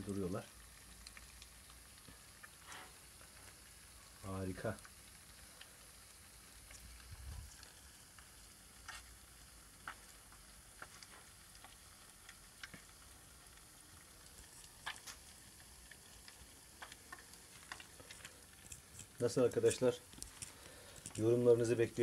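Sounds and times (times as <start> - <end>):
butter sizzling in a pan: 0.0 - 22.0
small pops and crackles: 0.0 - 22.0.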